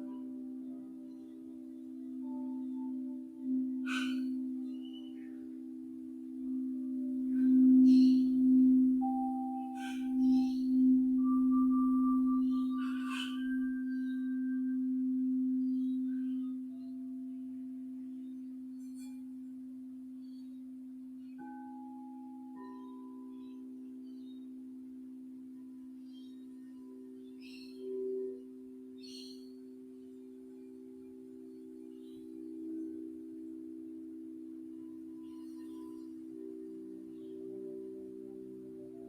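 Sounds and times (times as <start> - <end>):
singing bowls ringing: 0.0 - 39.0.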